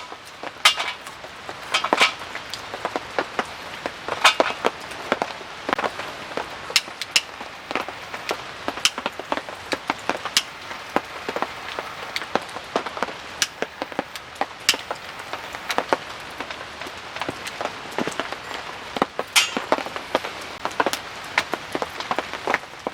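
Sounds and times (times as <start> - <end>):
rain falling: 0.0 - 22.9
raindrops tapping close by: 0.0 - 22.9.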